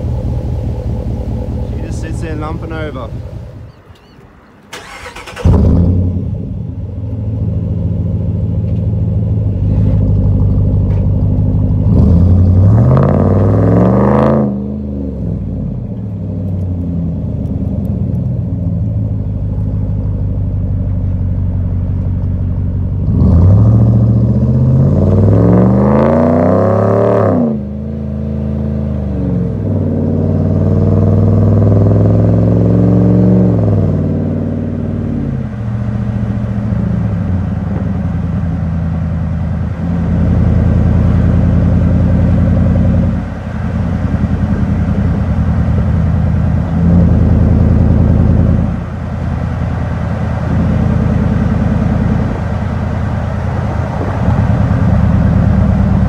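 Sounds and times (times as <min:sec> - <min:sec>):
truck engine and exhaust: 0:00.0 - 0:56.0.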